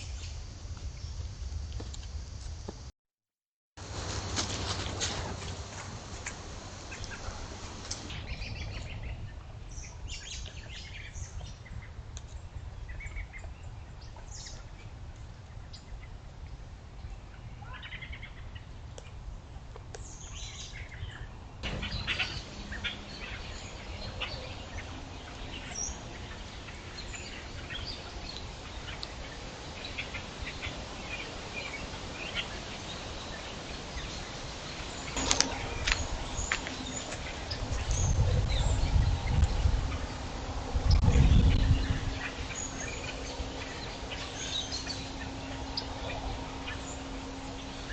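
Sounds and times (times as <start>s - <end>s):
low background rumble: 3.8s - 47.9s
wild birds chirping: 4.7s - 16.2s, 20.0s - 47.9s.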